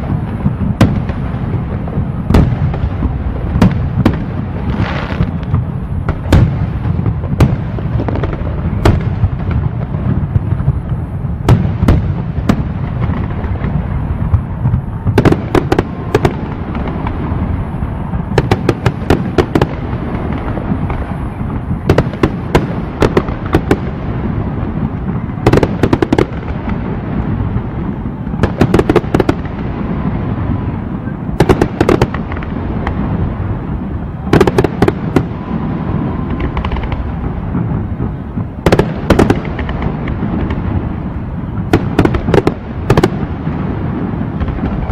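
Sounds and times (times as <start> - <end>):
fireworks cracking and popping: 0.0 - 44.9.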